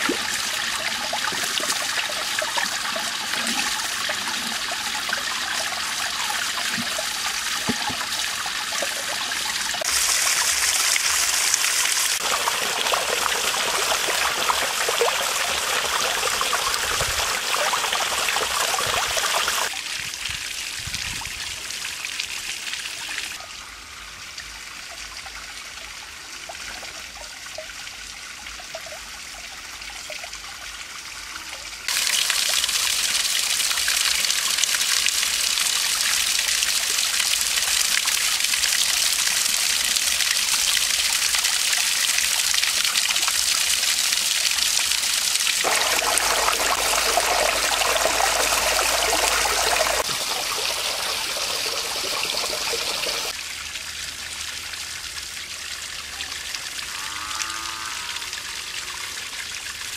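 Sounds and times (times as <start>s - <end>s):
water trickling into pond: 0.0s - 59.9s.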